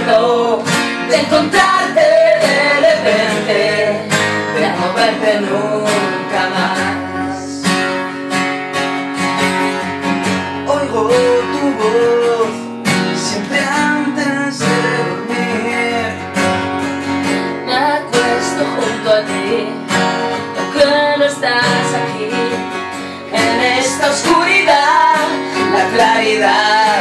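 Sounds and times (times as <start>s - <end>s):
acoustic guitars strumming: 0.0s - 27.0s.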